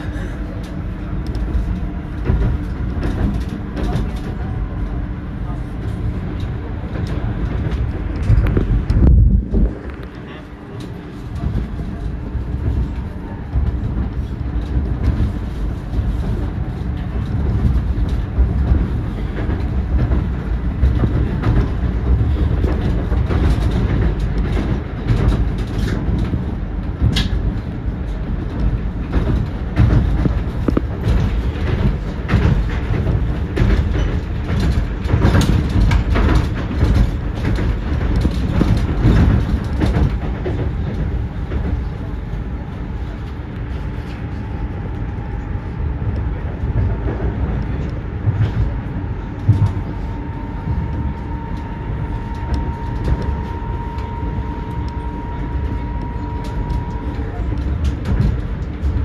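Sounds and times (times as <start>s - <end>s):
train wheels rumbling: 0.0s - 59.0s
wheels clicking over rail joints: 5.5s - 59.0s.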